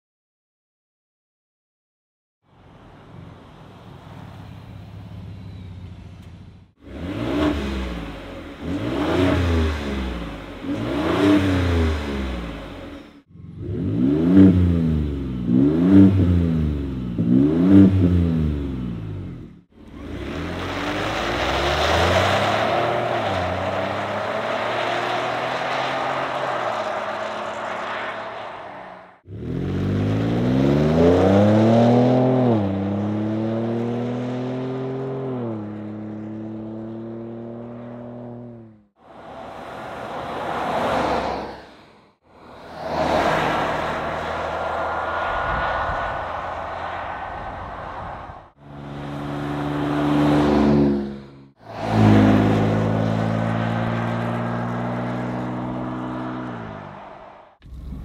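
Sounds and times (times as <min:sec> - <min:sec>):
truck engine revving: 0:06.8 - 0:38.8, 0:42.3 - 0:58.0.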